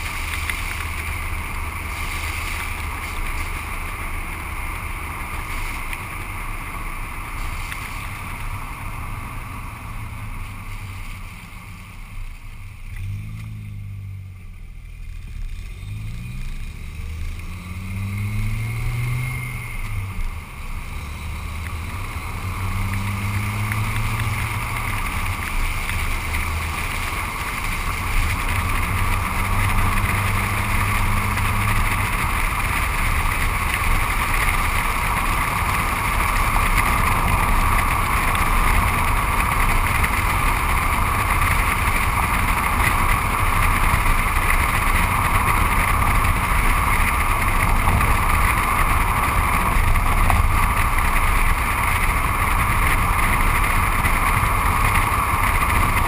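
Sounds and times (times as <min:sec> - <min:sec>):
low road rumble: 0:00.0 - 0:56.0
tyres hissing on wet road: 0:00.0 - 0:56.0.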